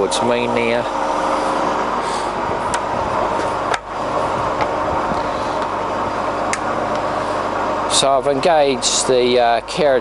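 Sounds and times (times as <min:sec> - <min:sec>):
lathe gearing hum: 0:00.0 - 0:10.0.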